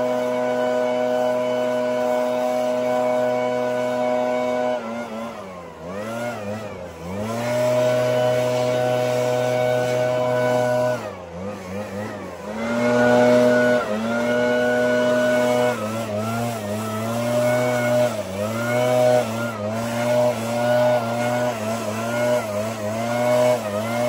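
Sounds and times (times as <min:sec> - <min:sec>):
leaf blower engine revving: 0:00.0 - 0:24.0.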